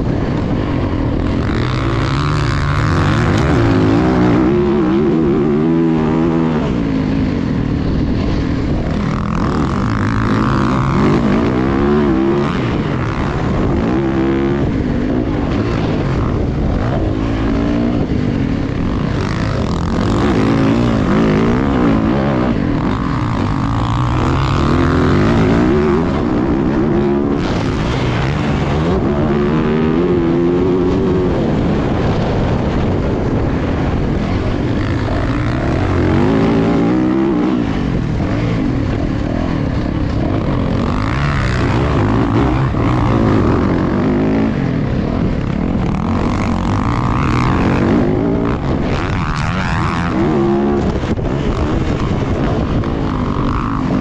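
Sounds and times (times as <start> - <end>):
motorbike engine revving hard: 0.0 - 54.0
wind and track noise: 0.0 - 54.0.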